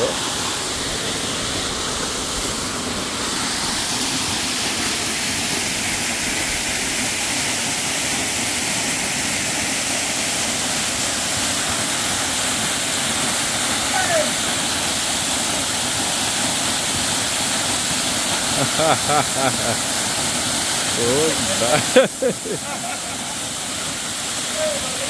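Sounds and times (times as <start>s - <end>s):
waterfall rushing onto rocks: 0.0s - 25.0s.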